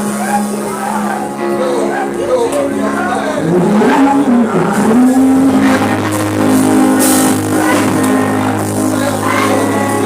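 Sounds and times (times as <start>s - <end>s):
worship music sustained chords: 0.0s - 10.0s.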